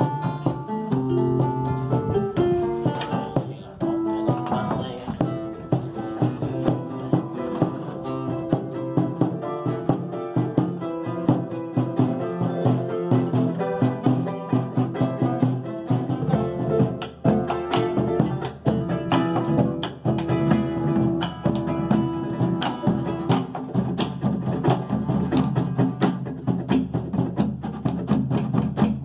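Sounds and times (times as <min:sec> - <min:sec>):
acoustic guitar accompaniment: 0:00.0 - 0:29.0
charango plucked notes: 0:00.0 - 0:29.0.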